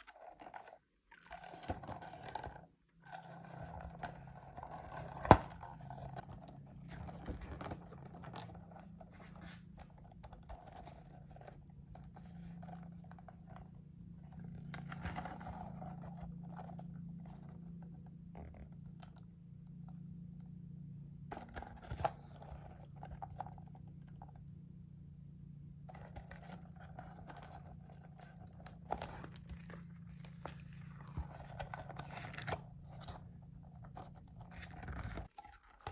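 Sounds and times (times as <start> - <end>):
steady low hum: 1.7 - 35.3.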